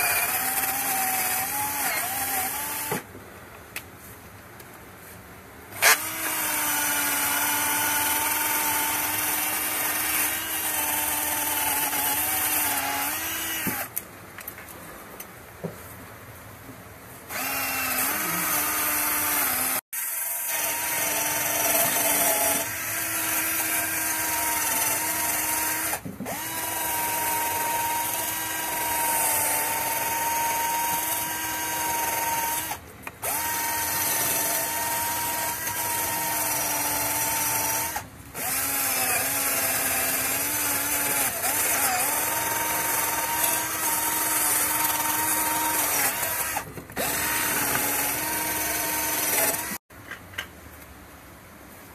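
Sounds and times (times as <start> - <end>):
drill spinning wire brush on pipe: 0.0 - 3.0, 5.8 - 13.9, 17.3 - 49.8.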